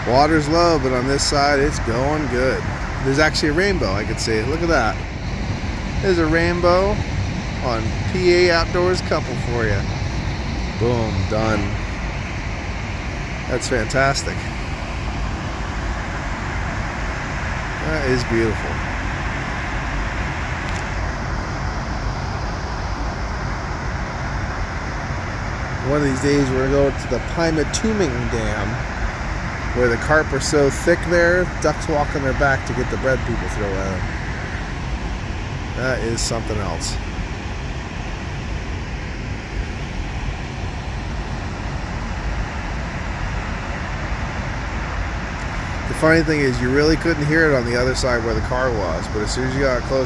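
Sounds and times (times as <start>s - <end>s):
water roaring from dam outlet: 0.0s - 21.2s, 24.1s - 50.0s.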